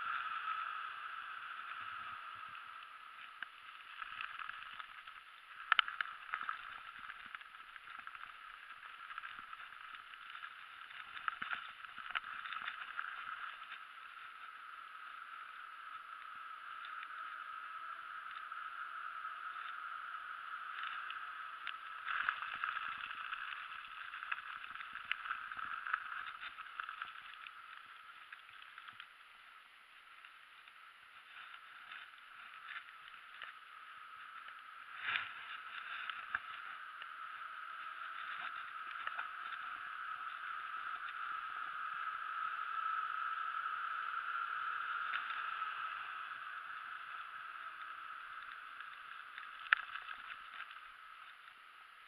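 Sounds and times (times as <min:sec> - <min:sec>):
bike tyre and drivetrain noise: 0:00.0 - 0:52.0.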